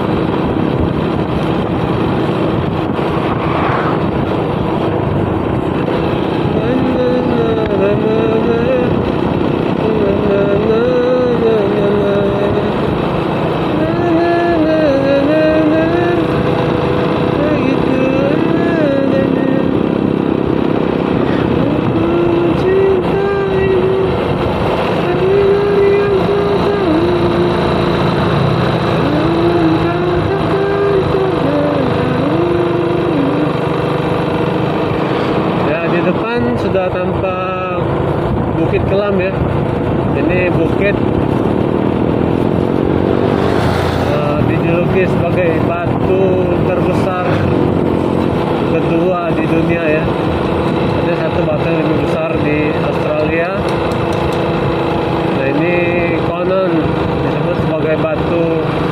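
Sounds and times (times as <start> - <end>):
motorcycle engine whine: 0.0 - 58.9
wind and road noise: 0.0 - 58.9.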